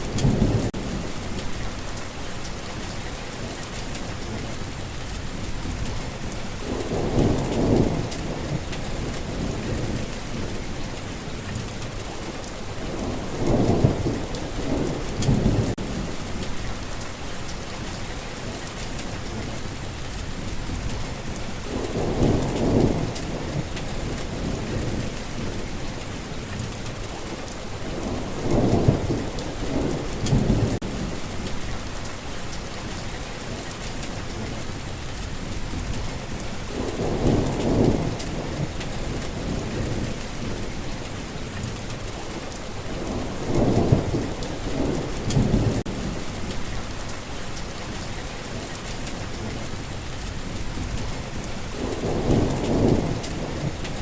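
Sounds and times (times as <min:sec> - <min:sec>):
steady rain falling: 0:00.0 - 0:54.0
thunder rumbles: 0:00.0 - 0:54.0.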